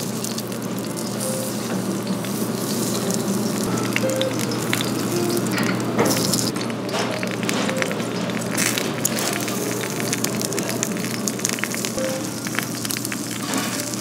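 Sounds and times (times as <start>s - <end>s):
pork sizzling on a grill: 0.0s - 14.0s.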